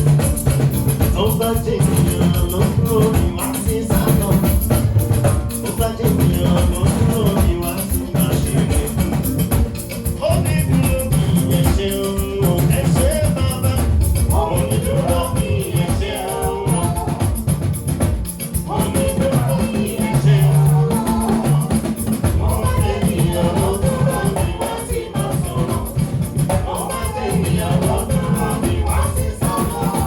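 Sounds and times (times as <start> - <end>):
band playing with drums: 0.0 - 30.0.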